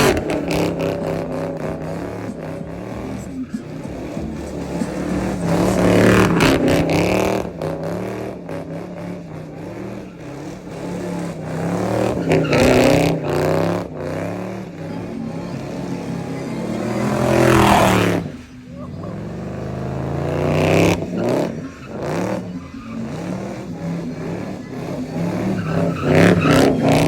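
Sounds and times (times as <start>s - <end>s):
car engines revving: 0.0s - 27.0s
cars accelerating past: 0.0s - 27.0s.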